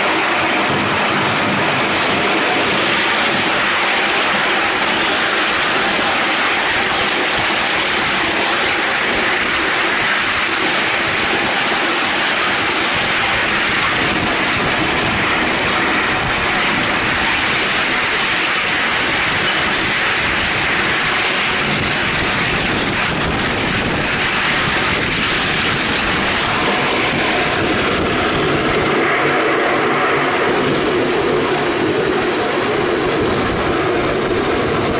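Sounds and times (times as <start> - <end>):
model steam locomotive running: 0.0 - 34.9
wheels rattling on rails: 0.0 - 34.9.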